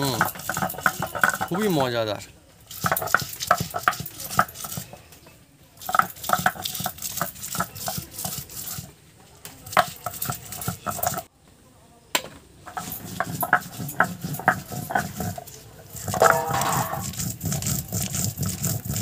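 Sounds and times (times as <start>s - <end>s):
stone roller grinding spices: 0.0s - 11.3s, 12.6s - 19.0s.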